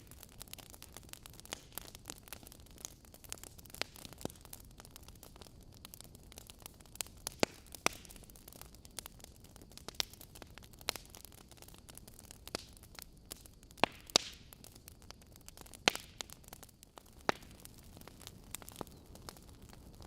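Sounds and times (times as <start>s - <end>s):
faint fire hiss: 0.0s - 20.0s
logs crackling and popping: 0.0s - 20.0s.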